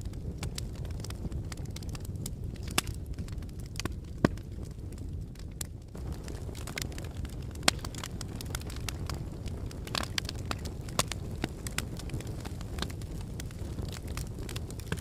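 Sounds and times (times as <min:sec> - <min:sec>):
sharp cracks and pops: 0:00.0 - 0:15.0
volcanic eruption rumble: 0:00.0 - 0:15.0.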